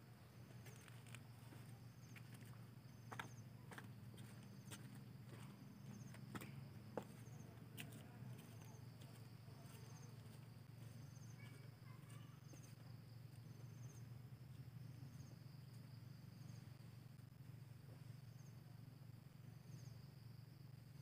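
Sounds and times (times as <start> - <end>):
insects whining: 0.0 - 21.0
steady low hum: 0.0 - 21.0.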